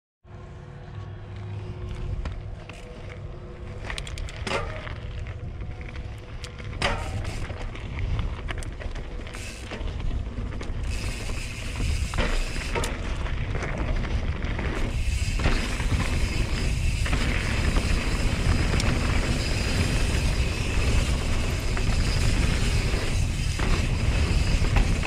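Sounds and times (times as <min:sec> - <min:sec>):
wind rumble on microphone: 0:00.3 - 0:25.0
bike rattling clicks: 0:01.9 - 0:25.0.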